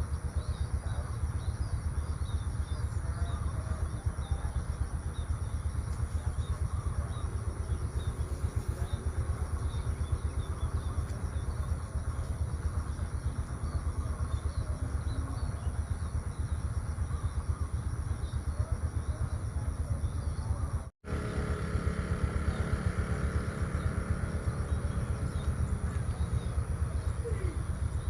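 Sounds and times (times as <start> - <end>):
high insect drone: 0.0 - 28.0
low fluttering rumble: 0.0 - 28.0.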